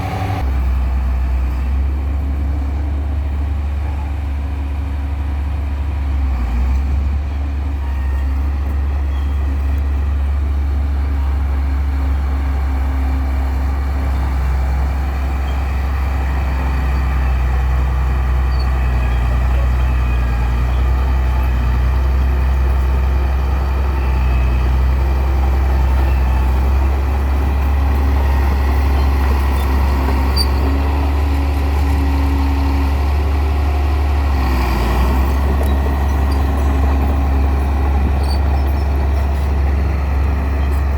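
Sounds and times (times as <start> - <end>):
heavy engine drone: 0.0 - 40.9.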